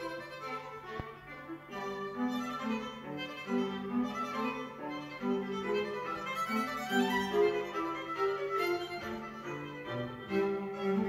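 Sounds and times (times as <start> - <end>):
bowed strings melody: 0.0 - 11.0.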